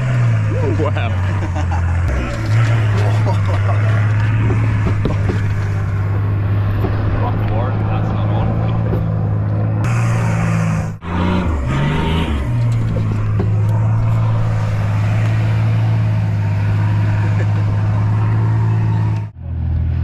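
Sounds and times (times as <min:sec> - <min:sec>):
vehicle engine low drone: 0:00.0 - 0:20.0.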